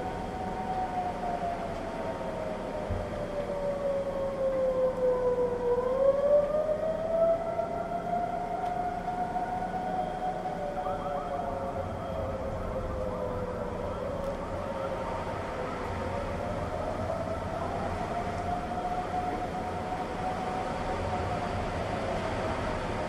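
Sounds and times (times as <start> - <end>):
distant warning sirens: 0.0 - 23.0.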